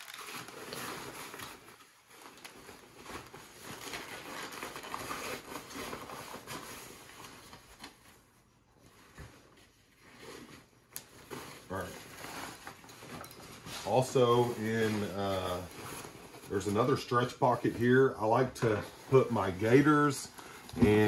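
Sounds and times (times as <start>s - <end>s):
plastic water bag crinkling: 0.0s - 8.4s, 10.2s - 21.0s.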